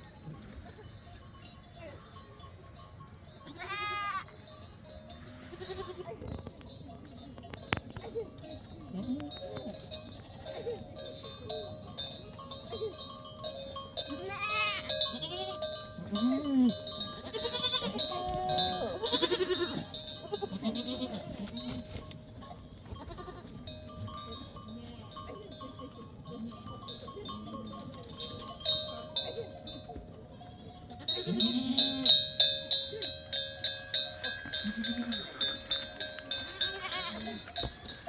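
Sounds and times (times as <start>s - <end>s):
livestock bells clanking: 0.0s - 38.0s
sheep and goats bleating: 3.4s - 4.5s, 5.2s - 6.3s, 8.7s - 11.6s, 12.4s - 38.0s.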